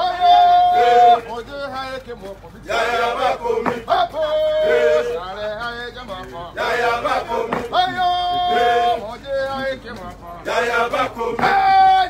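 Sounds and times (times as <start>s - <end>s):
men singing marching song: 0.0s - 12.0s.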